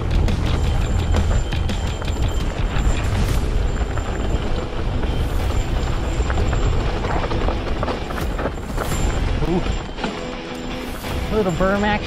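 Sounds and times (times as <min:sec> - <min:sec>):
bike rattling and clicking: 0:00.0 - 0:12.0
bike tyres rolling over dirt: 0:00.0 - 0:12.0.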